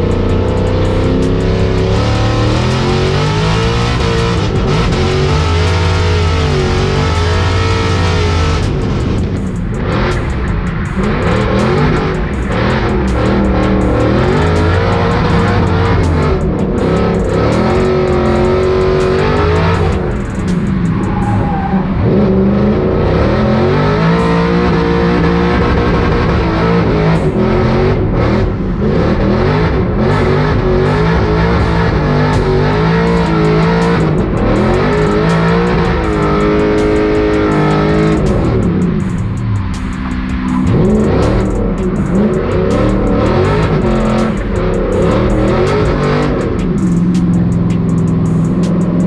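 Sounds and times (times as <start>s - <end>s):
car engine revving: 0.0s - 49.0s
guitar music: 0.0s - 49.0s.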